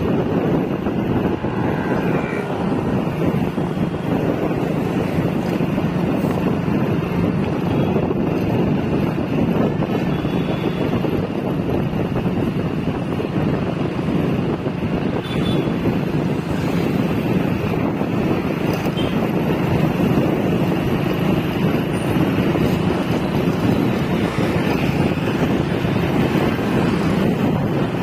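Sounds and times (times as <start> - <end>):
road noise: 0.0 - 28.0
wind rushing over microphone: 0.0 - 28.0.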